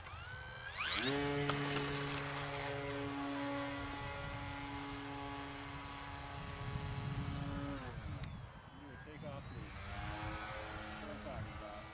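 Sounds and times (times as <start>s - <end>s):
model plane motor whine: 0.0s - 11.9s.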